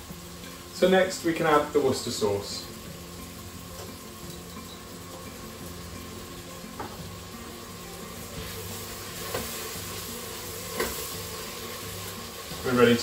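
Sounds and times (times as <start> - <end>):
onions and mushrooms sizzling: 0.0 - 13.0.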